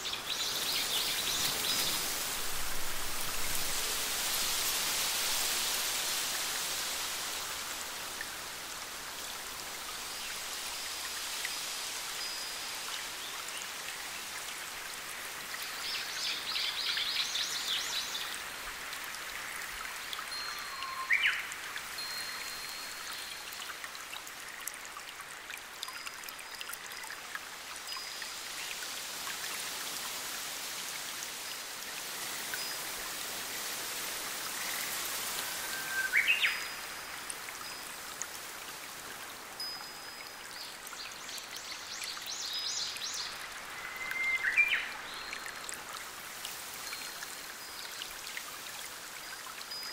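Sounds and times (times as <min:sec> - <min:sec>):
stream splashing and trickling: 0:00.0 - 0:49.9.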